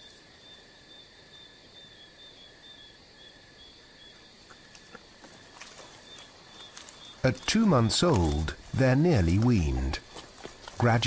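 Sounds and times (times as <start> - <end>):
cricket chirping: 0.0 - 11.0
thin high insect trill: 0.0 - 11.0.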